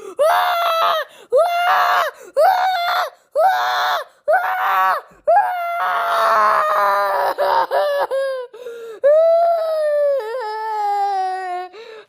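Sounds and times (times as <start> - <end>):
child crying: 0.2 - 11.8.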